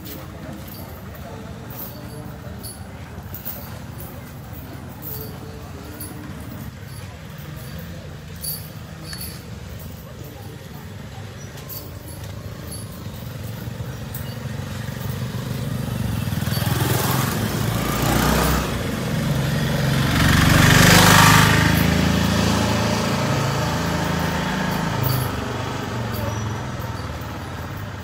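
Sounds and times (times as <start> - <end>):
small vehicle engine passing: 0.5 - 28.0.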